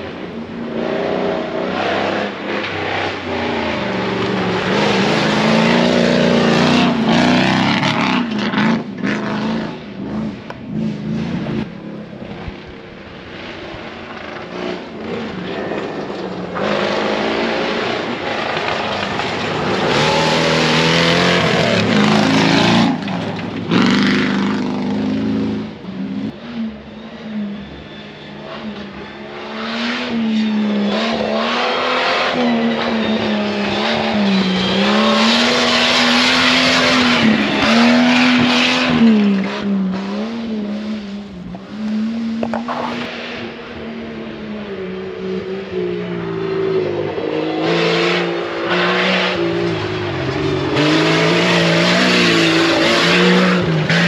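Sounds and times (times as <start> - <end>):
race vehicle engine revving: 0.0 - 11.8, 13.3 - 54.0.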